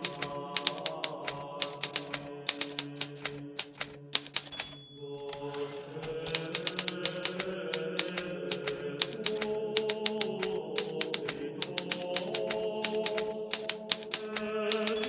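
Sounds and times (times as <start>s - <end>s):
typewriter bell ringing: 0.0s - 15.0s
typewriter typing: 0.0s - 15.0s.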